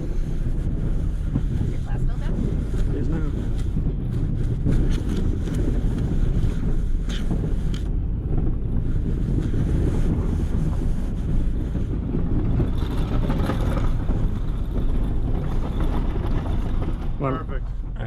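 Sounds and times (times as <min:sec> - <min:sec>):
snow plow engine rumble: 0:00.0 - 0:18.0
wind noise on microphone: 0:00.0 - 0:18.0.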